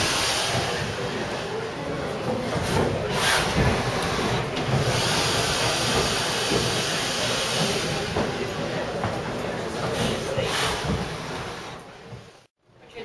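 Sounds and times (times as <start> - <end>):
steam hissing: 0.0 - 12.5.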